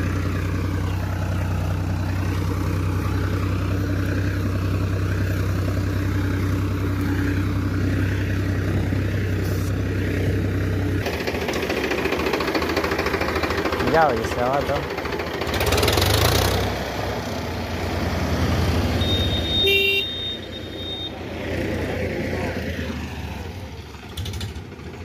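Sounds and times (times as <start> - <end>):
engine clattering close up: 0.0 - 19.6, 21.5 - 25.0
tractor diesel engine running: 0.0 - 25.0.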